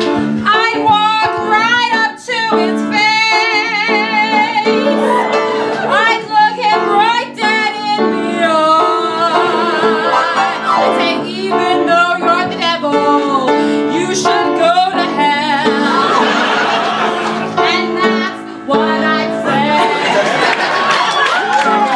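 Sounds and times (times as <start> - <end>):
woman singing with vibrato: 0.0 - 16.4, 17.5 - 20.2
instrumental held chords: 0.0 - 20.2.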